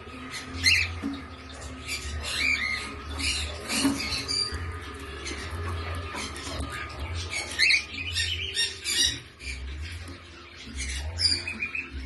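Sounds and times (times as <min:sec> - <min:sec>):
cockatiels chirping and squawking: 0:00.0 - 0:12.0.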